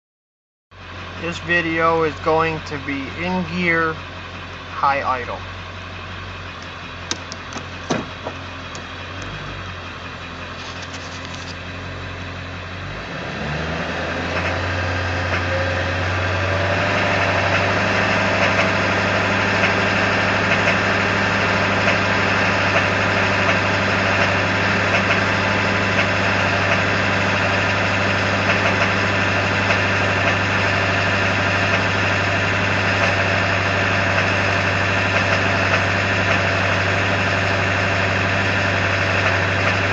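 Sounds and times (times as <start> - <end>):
diesel engine running: 0.7 - 39.9.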